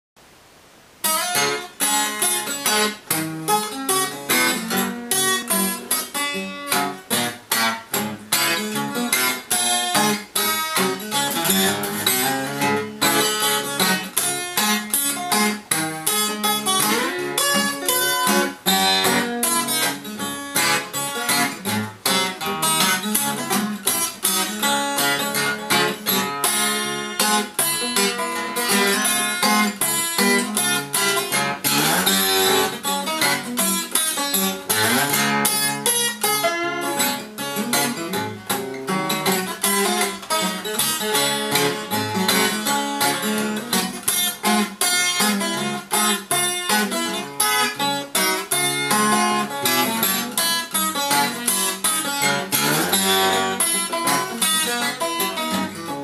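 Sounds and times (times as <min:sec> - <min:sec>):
fingerpicked acoustic blues guitar: 0:01.0 - 0:56.0.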